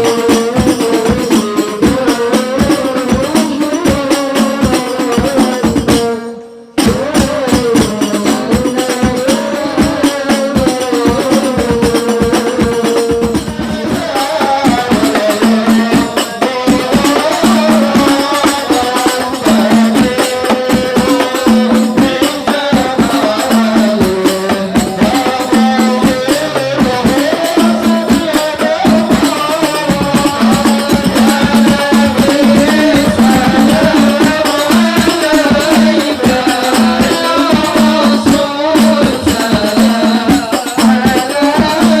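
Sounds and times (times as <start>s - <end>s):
hand percussion beat: 0.0s - 42.0s
person singing: 0.0s - 42.0s
tambourine jingles: 0.0s - 42.0s.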